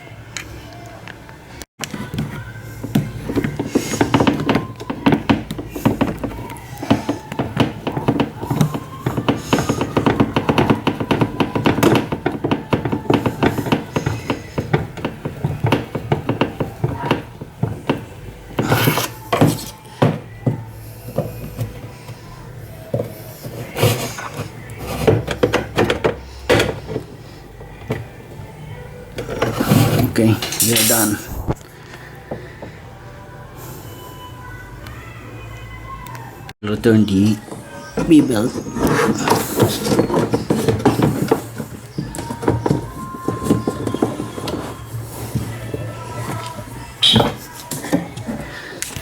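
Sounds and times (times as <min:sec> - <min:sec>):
hand scraping and rubbing parts: 0:01.8 - 0:32.3, 0:37.9 - 0:49.0.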